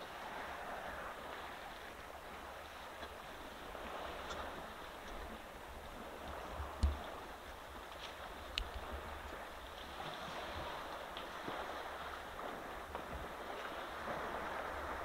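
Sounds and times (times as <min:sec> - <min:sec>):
water splashing and sloshing: 0:00.0 - 0:15.0
wind rumble on microphone: 0:00.0 - 0:15.0.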